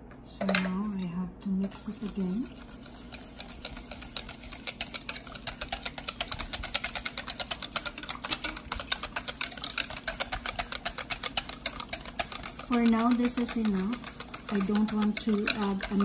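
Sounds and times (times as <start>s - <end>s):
utensil clicking against bowl: 2.8s - 16.0s.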